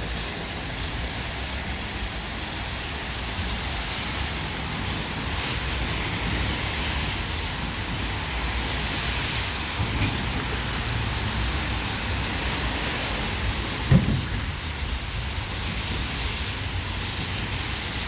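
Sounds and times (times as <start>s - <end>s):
automatic car wash rushing: 0.0s - 18.0s.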